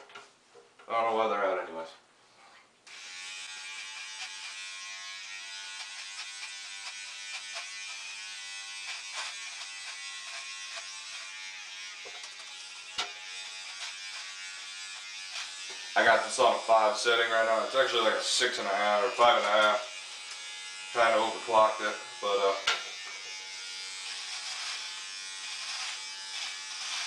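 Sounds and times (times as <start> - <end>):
electric beard trimmer buzzing: 2.9 - 27.0.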